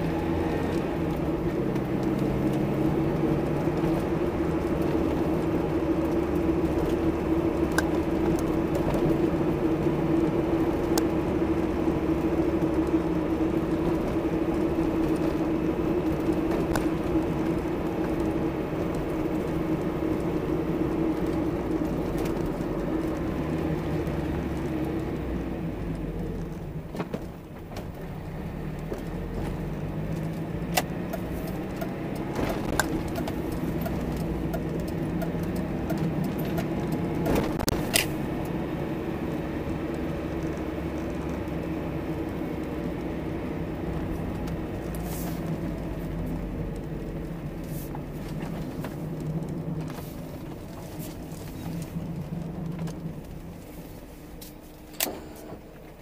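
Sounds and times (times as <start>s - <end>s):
car engine drone inside cabin: 0.0s - 56.0s.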